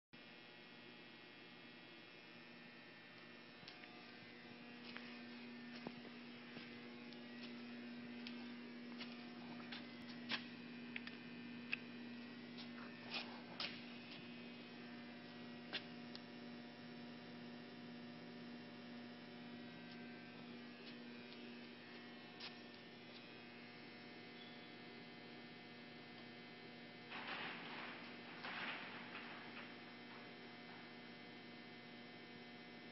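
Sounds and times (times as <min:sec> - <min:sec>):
faint electrical hum: 0:00.2 - 0:32.9.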